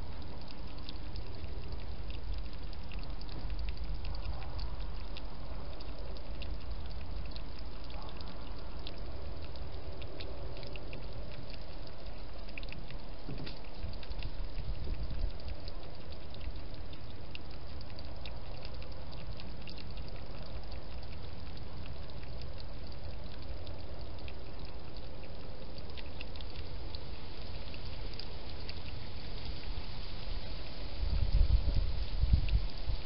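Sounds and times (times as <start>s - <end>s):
small wet eating clicks: 0.0s - 29.0s
steady hiss: 0.0s - 33.0s.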